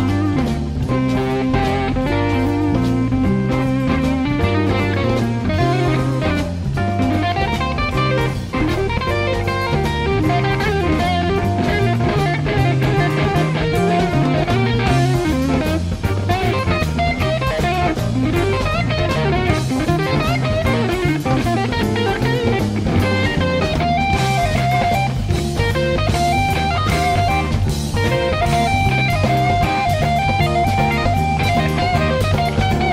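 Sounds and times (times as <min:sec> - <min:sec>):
drum kit: 0:00.0 - 0:32.9
electric bass: 0:00.0 - 0:32.9
electric guitar solo: 0:00.0 - 0:32.9.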